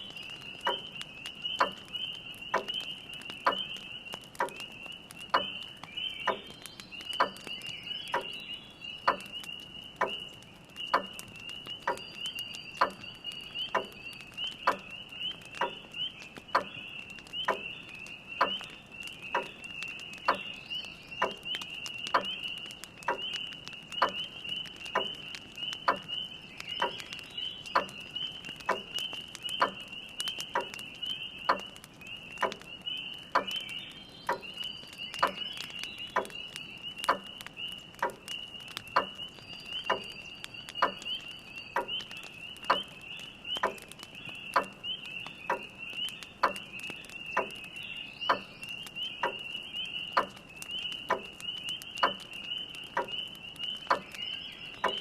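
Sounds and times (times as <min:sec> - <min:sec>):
spring peepers chorus: 0:00.0 - 0:55.0
wood fire crackling: 0:00.0 - 0:55.0.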